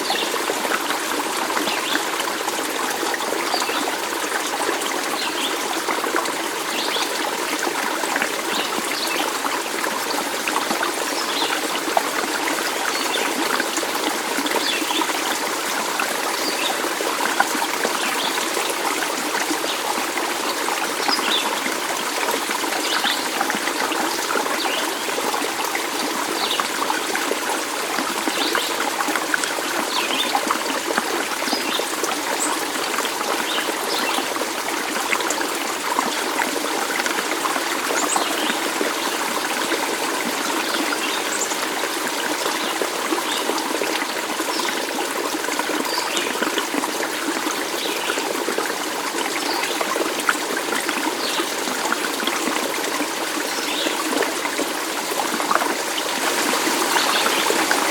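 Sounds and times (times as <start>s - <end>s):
stream water trickling: 0.0s - 57.9s.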